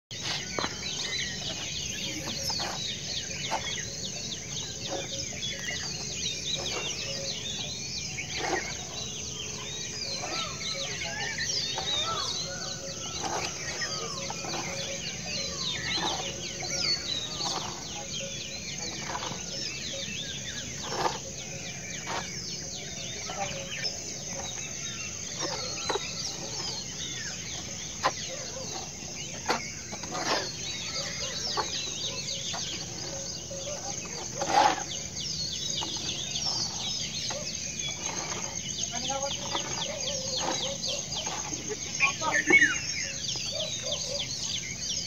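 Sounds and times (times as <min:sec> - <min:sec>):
hoes scraping wet mortar: 0:00.1 - 0:43.5
birds chirping: 0:00.1 - 0:45.0.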